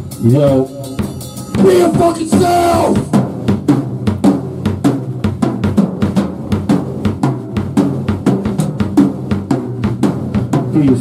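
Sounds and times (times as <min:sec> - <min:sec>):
drum kit playing fast beat: 0:00.0 - 0:11.0.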